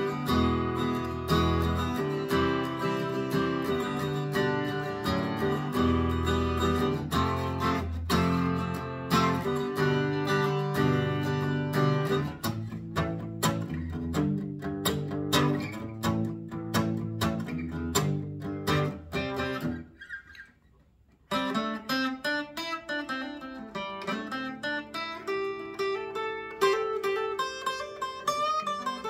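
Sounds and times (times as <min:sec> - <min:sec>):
fingerpicked guitar through amp: 0:00.0 - 0:20.5, 0:21.2 - 0:29.0.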